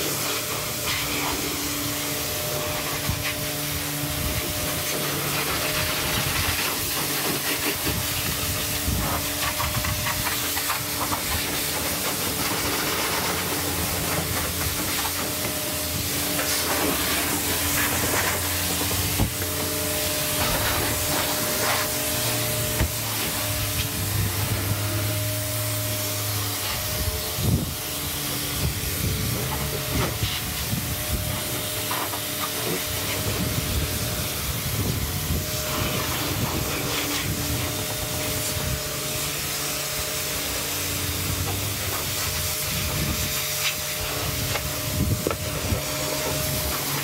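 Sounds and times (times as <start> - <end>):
pressure washer spraying water: 0.0 - 47.0
machine hum: 0.1 - 47.0.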